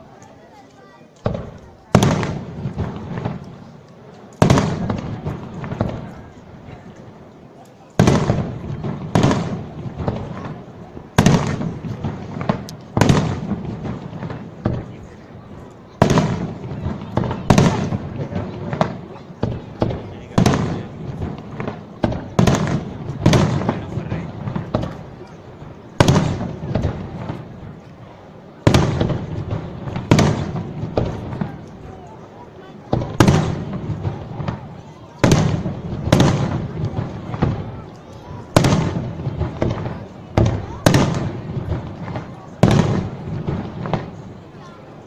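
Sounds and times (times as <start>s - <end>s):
firework crackles and pops: 0.0s - 45.0s
fireworks bangs with rumbling echo: 0.0s - 45.0s.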